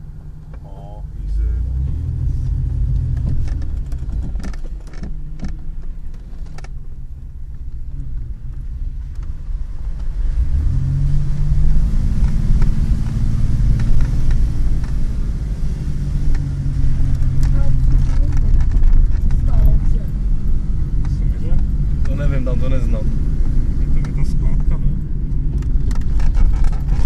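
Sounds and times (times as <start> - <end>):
car engine rumble: 0.0 - 27.0.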